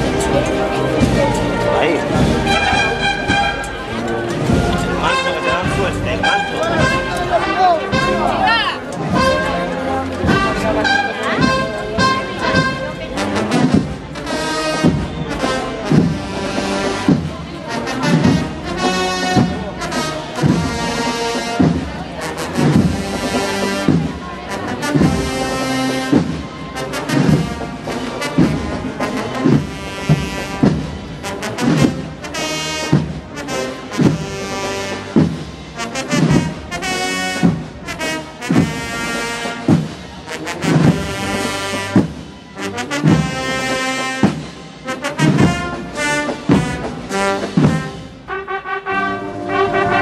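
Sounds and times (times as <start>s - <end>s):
steady drum beat: 0.0s - 48.4s
brass band slow march: 0.0s - 50.0s.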